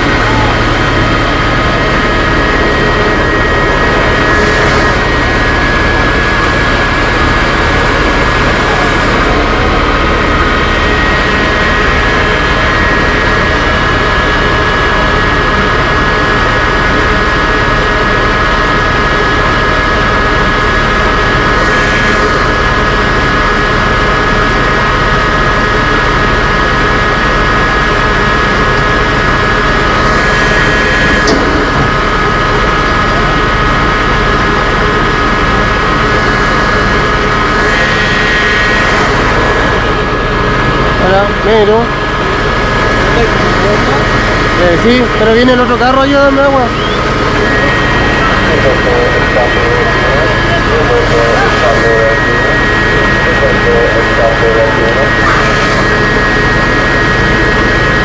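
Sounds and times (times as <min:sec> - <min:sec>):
heavy engine running steadily: 0:00.0 - 0:58.0.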